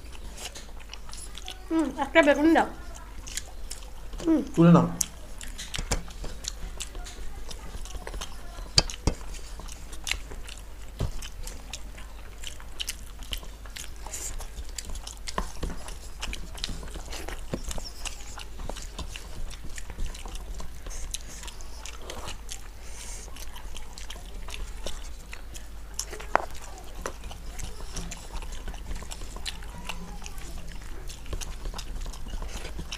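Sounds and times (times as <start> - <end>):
fingers mixing rice on plates: 0.0 - 32.9
people chewing crunchy food: 0.0 - 32.9.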